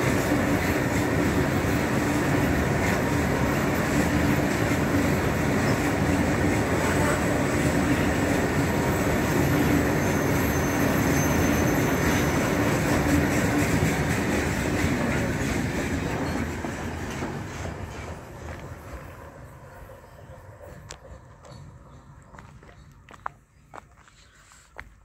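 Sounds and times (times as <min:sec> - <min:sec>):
freight train wheels rumbling: 0:00.0 - 0:24.2.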